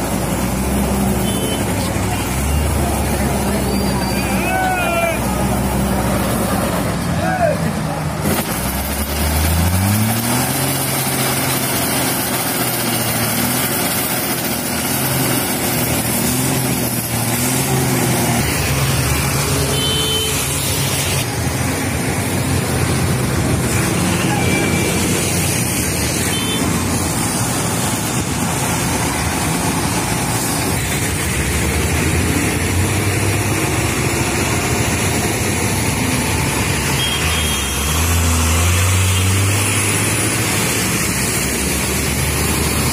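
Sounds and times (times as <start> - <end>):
truck diesel engine revving: 0.0 - 42.9.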